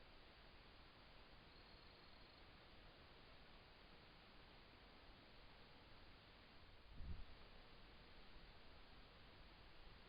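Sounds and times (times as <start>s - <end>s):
low background hiss: 0.0s - 10.0s.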